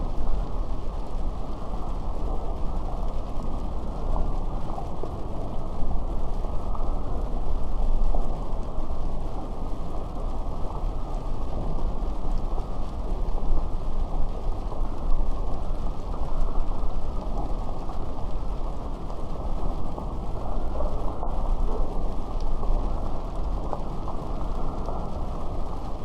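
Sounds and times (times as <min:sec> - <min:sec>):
steady rain patter: 0:00.0 - 0:26.0.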